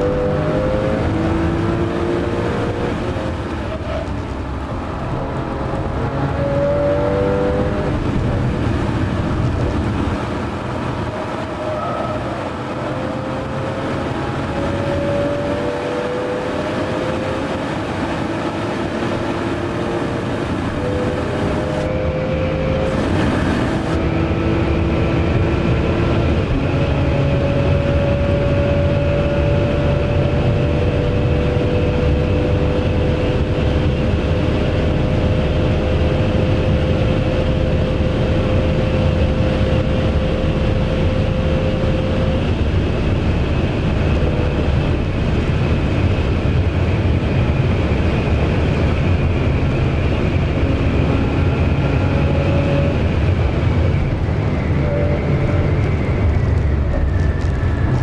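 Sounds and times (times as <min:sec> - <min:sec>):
car engine from inside cabin: 0:00.0 - 0:58.0
road noise: 0:00.0 - 0:58.0.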